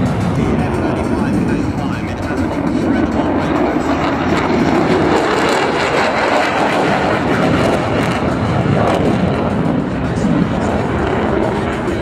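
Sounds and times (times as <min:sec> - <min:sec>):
military jet flying past: 0:00.0 - 0:12.0.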